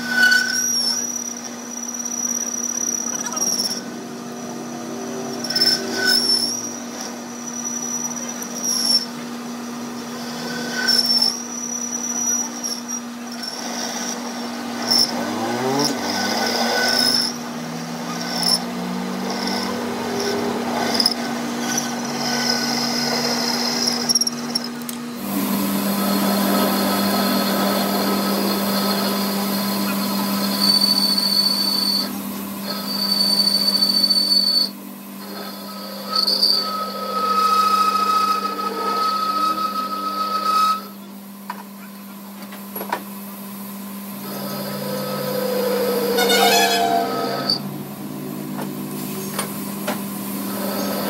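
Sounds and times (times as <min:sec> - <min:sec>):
high cutting squeal: 0:00.0 - 0:09.2, 0:10.2 - 0:24.7, 0:25.3 - 0:41.0, 0:44.2 - 0:47.9
lathe motor humming: 0:00.0 - 0:41.1, 0:43.5 - 0:51.0.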